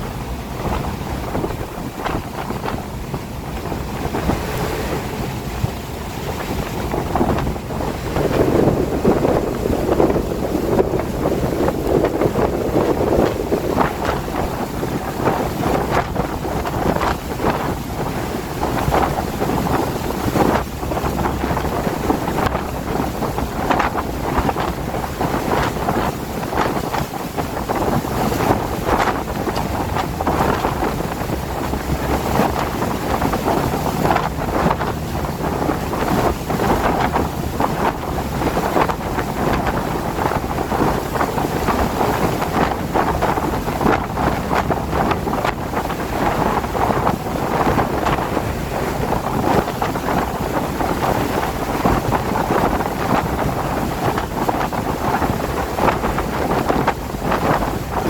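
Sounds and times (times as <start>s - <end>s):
rain: 0.0s - 26.7s, 27.4s - 56.6s
wind buffeting microphone: 0.0s - 58.0s
wind rushing: 0.0s - 58.0s.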